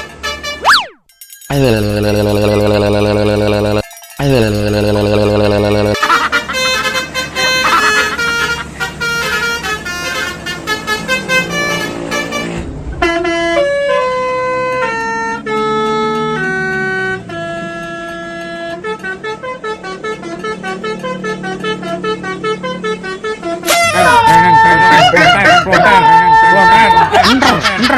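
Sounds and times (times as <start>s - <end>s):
multi-tone bus air horn melody: 0.0s - 0.8s, 1.5s - 27.4s.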